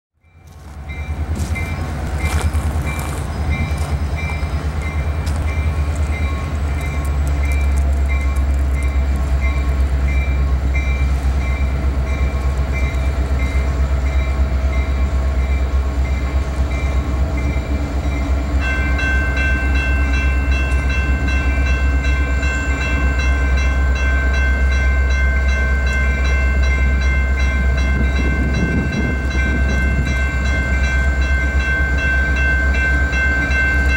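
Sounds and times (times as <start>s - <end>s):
freight train rumble: 0.2s - 33.9s.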